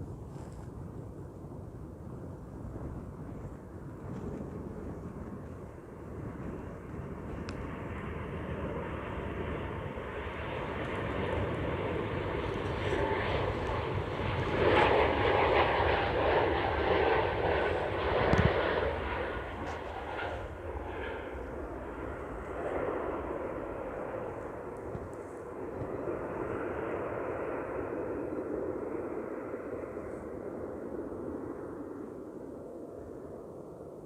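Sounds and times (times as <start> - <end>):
airliner engines passing: 0.0 - 34.0.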